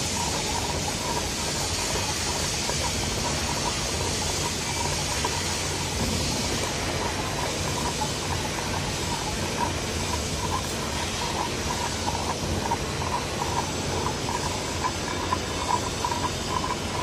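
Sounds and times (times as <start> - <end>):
welding hiss: 0.0 - 16.8.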